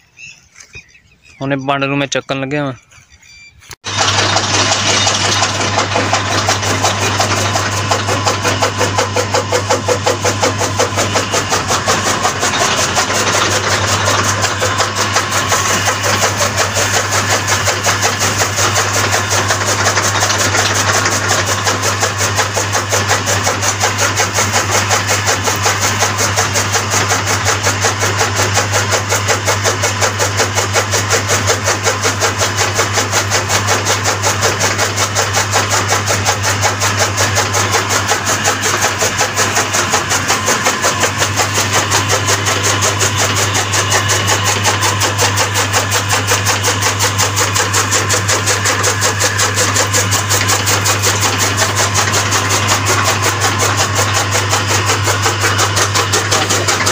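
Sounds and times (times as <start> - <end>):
chaff cutter motor humming: 0.0 - 56.9
blades chopping fodder: 3.8 - 56.9.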